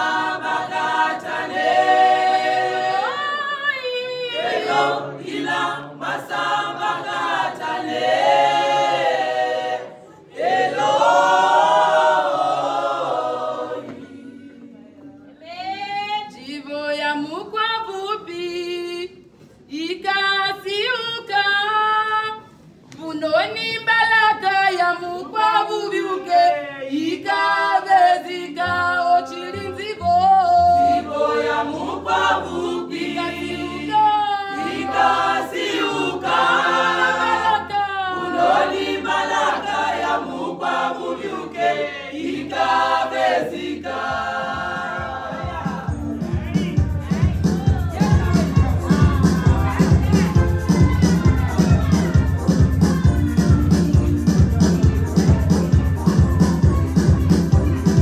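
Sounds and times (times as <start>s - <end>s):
women's choir singing: 0.0s - 18.3s, 23.7s - 58.0s.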